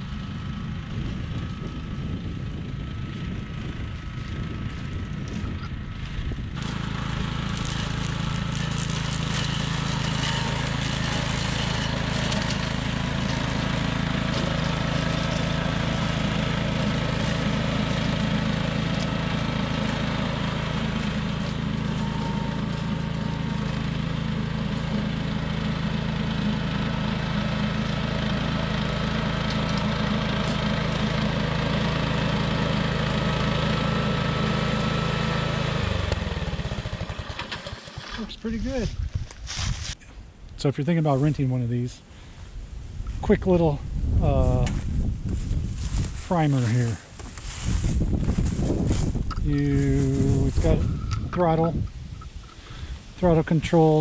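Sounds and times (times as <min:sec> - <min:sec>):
brush cutter engine running: 0:00.0 - 0:40.0, 0:43.2 - 0:54.0.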